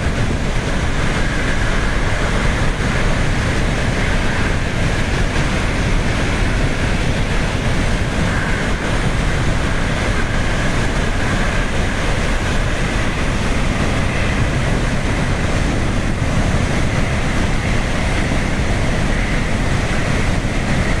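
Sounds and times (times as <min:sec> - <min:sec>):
rushing floodwater roar: 0:00.0 - 0:21.0.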